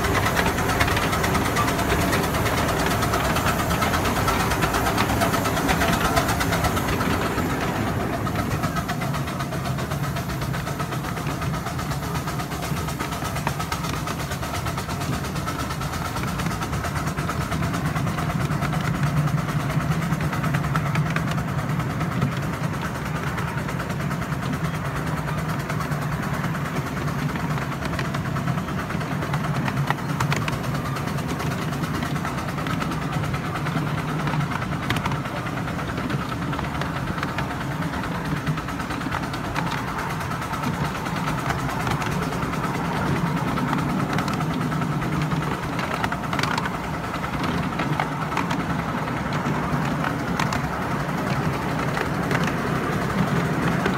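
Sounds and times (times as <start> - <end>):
miniature steam train running: 0.0 - 53.9.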